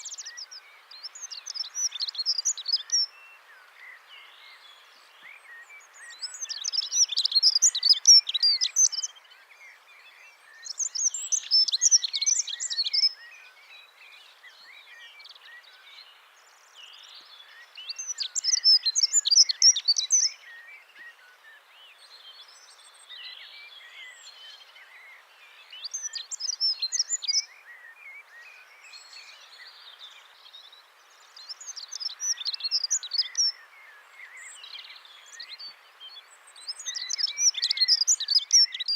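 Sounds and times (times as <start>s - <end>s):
faint steady hiss: 0.0s - 38.9s
songbird twittering: 0.0s - 38.9s.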